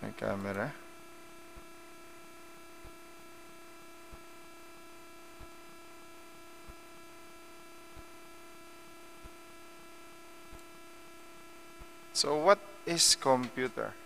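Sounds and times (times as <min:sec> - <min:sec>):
electrical hum with high tones: 0:00.0 - 0:14.0.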